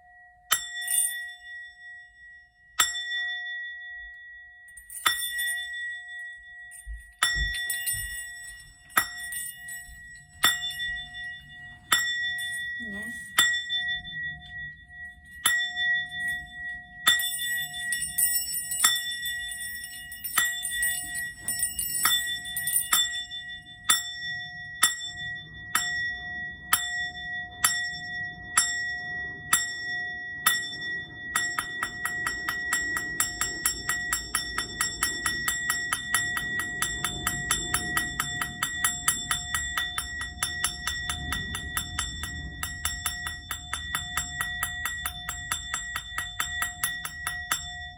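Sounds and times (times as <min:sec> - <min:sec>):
singing bowl struck with mallet: 0:05.0 - 0:47.9.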